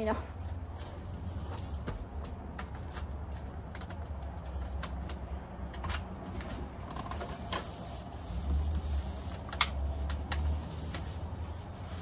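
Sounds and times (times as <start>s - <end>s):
objects being handled: 0.4s - 12.0s.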